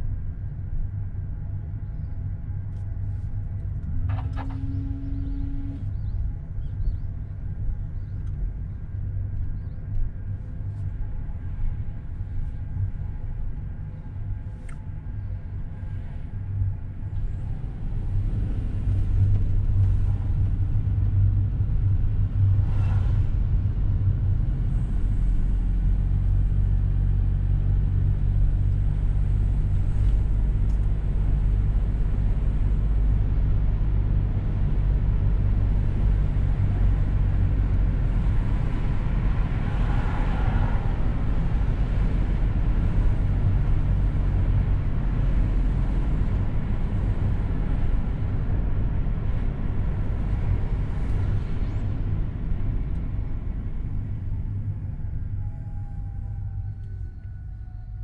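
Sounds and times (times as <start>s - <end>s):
car engine hum: 0.0s - 58.0s.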